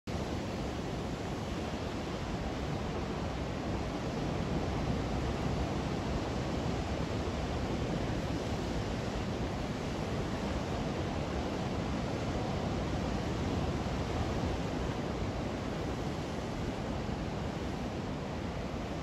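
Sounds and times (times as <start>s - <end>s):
surf washing over rocks: 0.1s - 19.0s.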